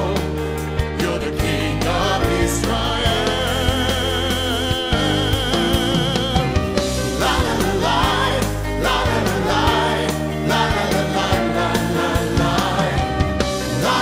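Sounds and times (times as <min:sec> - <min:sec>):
worship music with drums: 0:00.0 - 0:14.0.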